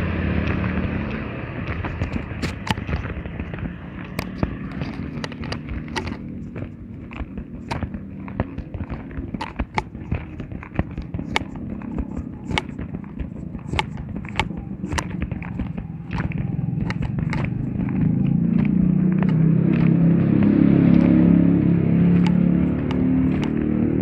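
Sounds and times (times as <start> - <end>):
sharp clicks and cracks: 0.3 - 24.0.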